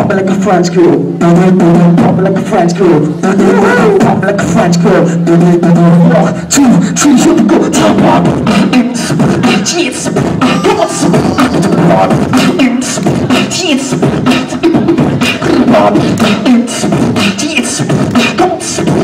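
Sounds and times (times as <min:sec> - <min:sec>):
person beatboxing: 0:00.0 - 0:19.0.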